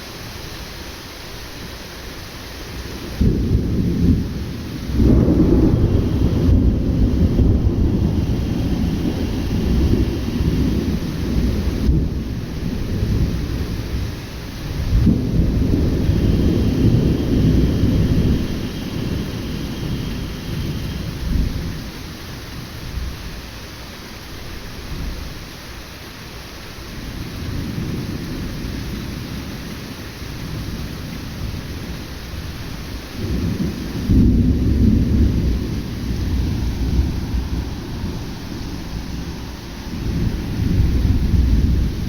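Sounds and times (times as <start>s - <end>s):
heavy rain: 0.0s - 42.0s
thunder rumbling: 2.8s - 22.2s, 27.0s - 42.0s.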